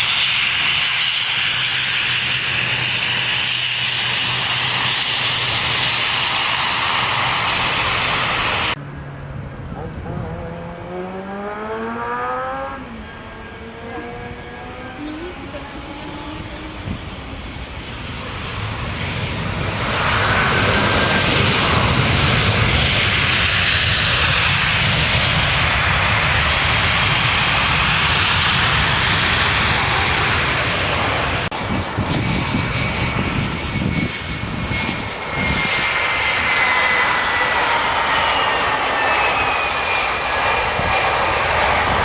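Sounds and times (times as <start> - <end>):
jet airliner flying overhead: 0.0 - 42.0
jet engine whine: 0.0 - 42.0.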